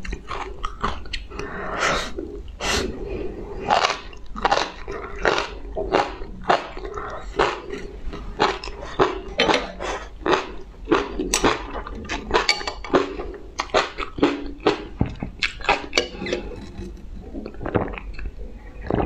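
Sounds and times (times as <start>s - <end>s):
person chewing: 0.0s - 3.0s, 3.6s - 19.0s.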